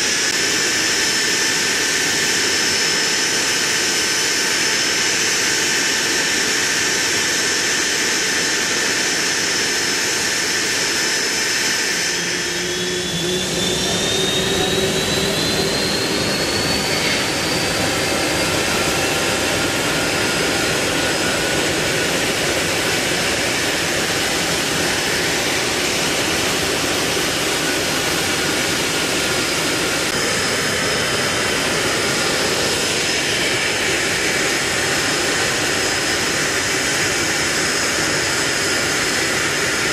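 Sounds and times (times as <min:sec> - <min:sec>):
jet engine spooling up: 0:00.0 - 0:39.9
jet engines running: 0:00.0 - 0:39.9.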